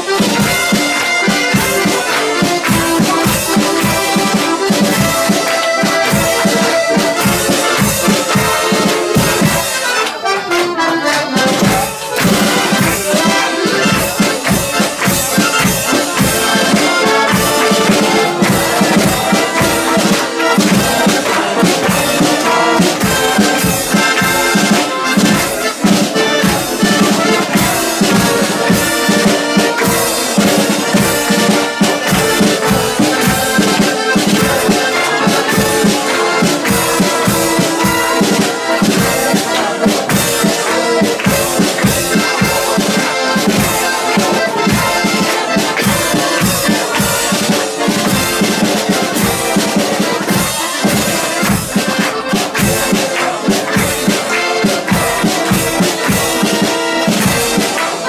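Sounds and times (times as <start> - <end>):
accordion and brass band playing: 0.0 - 58.0
crowd clapping along: 0.0 - 58.0.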